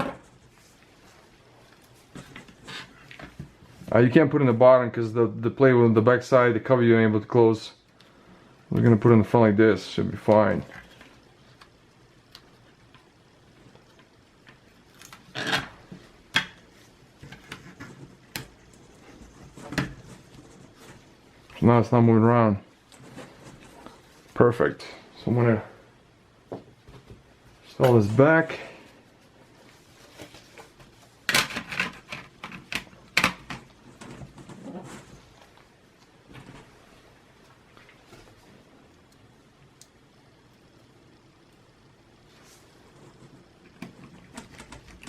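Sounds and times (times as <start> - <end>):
soft handling noise: 0.0 - 4.6, 8.7 - 25.6, 26.4 - 45.0.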